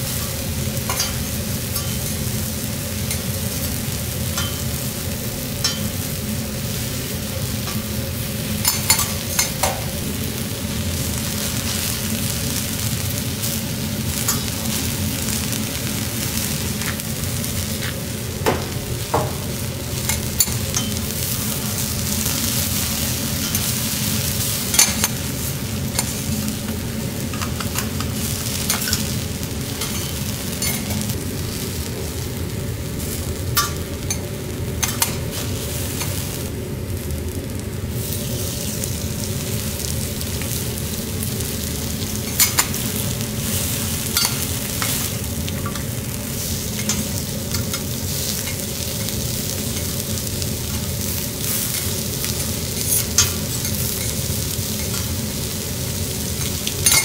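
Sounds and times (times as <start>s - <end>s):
vegetables sizzling on griddle: 0.0s - 57.0s.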